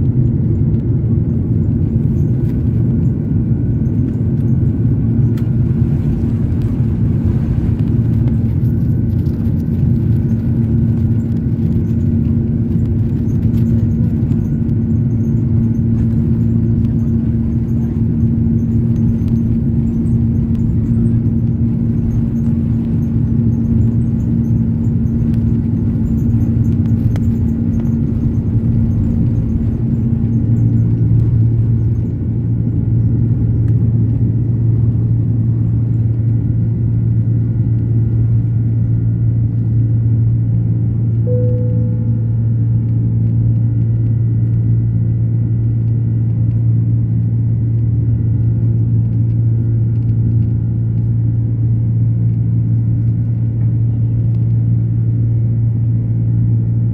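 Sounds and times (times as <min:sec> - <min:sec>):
airplane engine rumble in cabin: 0:00.0 - 0:56.9.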